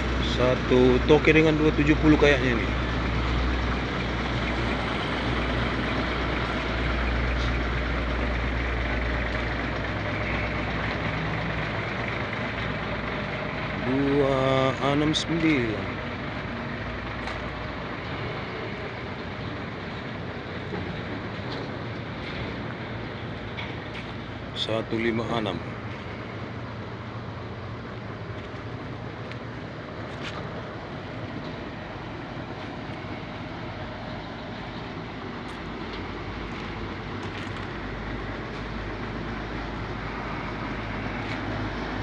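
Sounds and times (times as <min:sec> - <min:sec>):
bus diesel engine rumbling: 0:00.0 - 0:42.0.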